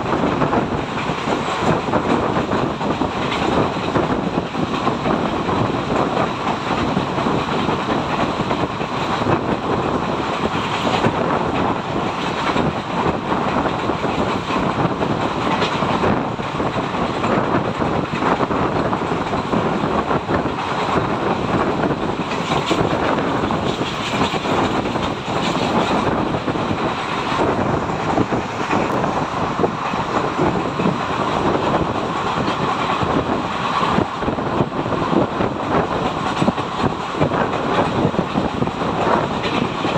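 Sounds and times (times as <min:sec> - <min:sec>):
train wheels rumbling and clattering: 0:00.0 - 0:39.9.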